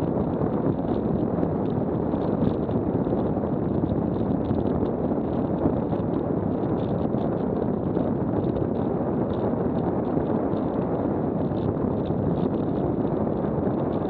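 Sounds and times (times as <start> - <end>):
rolling rumble of wheels: 0.0 - 14.0
wind rush on microphone: 0.0 - 14.0.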